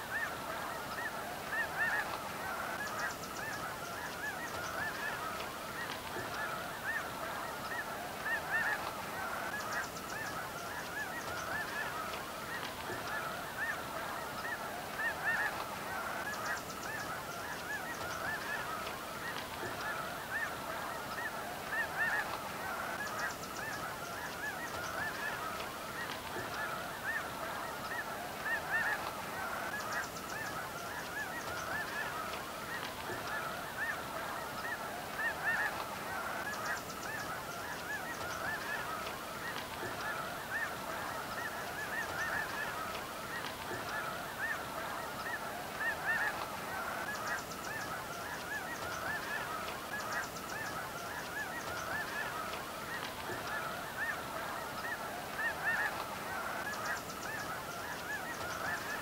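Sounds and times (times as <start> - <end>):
geese honking in flight: 0.0 - 59.0.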